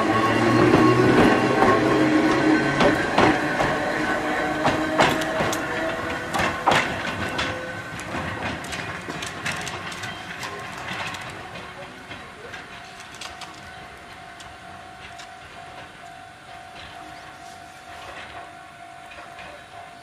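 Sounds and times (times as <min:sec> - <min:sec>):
electric railcar motor hum: 0:00.0 - 0:20.0
wheels clicking over rail joints: 0:00.2 - 0:20.0.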